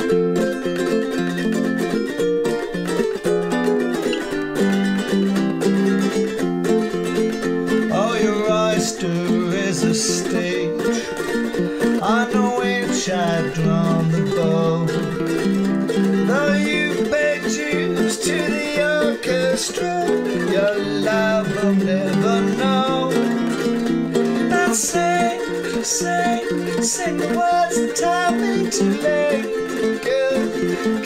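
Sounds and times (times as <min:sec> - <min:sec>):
ukulele lead melody: 0:00.0 - 0:31.0
ukulele strumming chords: 0:00.0 - 0:31.0.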